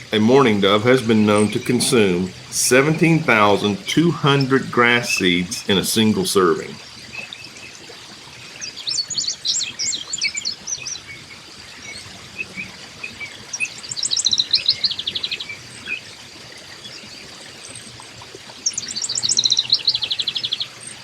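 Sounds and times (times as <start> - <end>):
songbird singing: 0.0 - 7.9, 8.5 - 16.0, 18.6 - 20.9.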